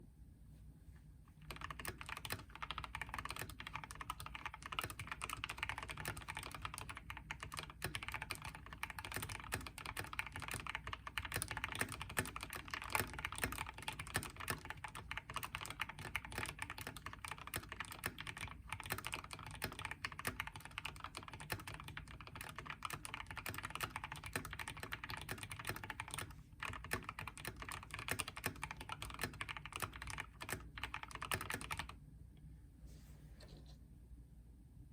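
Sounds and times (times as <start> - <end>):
fast mechanical keyboard typing: 1.4 - 32.0.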